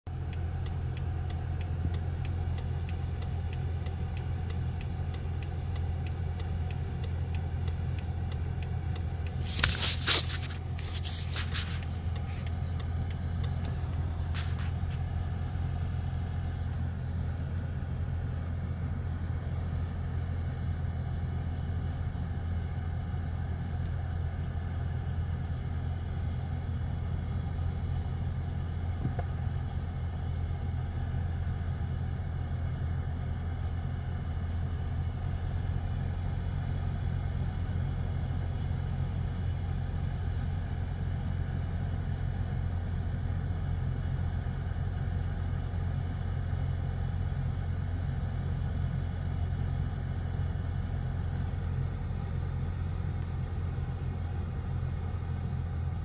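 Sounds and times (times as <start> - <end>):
car engine at low revs: 0.0 - 56.0.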